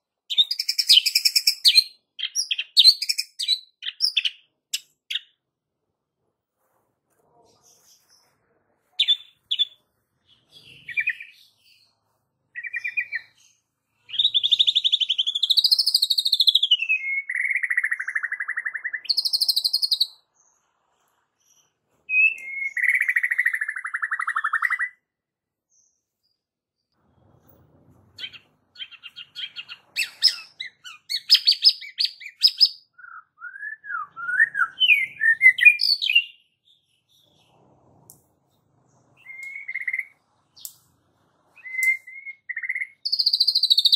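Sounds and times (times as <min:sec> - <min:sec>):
bird singing: 0:00.0 - 0:05.4, 0:07.8 - 0:25.0, 0:28.2 - 0:37.6, 0:38.5 - 0:40.9, 0:41.5 - 0:43.9.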